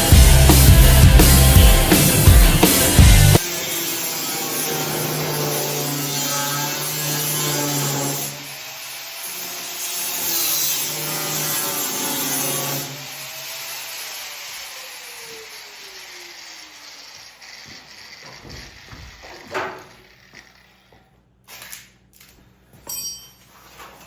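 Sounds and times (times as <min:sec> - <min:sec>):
angle grinder cutting sheet metal: 0:00.0 - 0:21.0.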